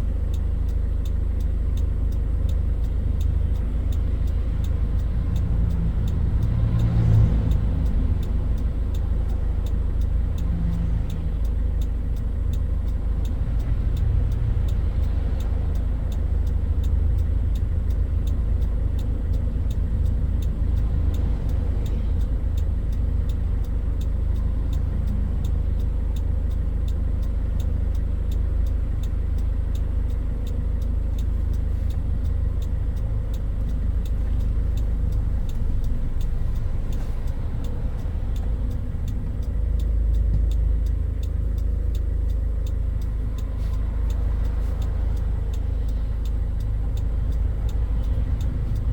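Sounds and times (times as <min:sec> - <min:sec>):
pickup engine and road rumble: 0:00.0 - 0:48.9.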